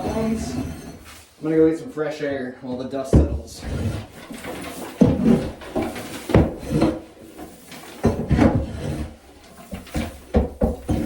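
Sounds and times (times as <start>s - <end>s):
hand tool scraping wooden boards: 0.0s - 1.6s, 3.2s - 11.0s.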